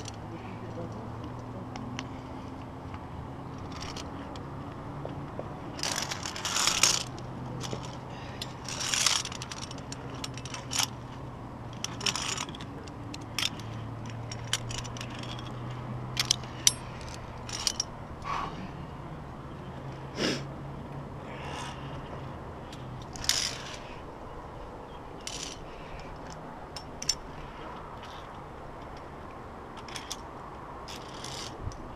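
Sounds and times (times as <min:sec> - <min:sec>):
carabiners clinking on steel cable: 0:00.0 - 0:18.3, 0:21.3 - 0:29.1, 0:29.7 - 0:31.9.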